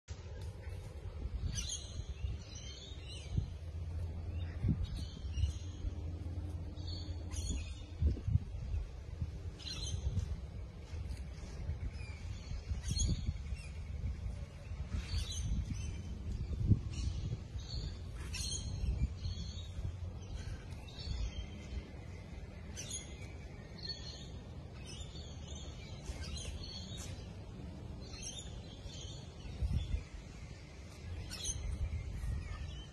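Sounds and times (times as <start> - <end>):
birds chirping: 0.1 - 32.9
low rumble: 0.1 - 32.9.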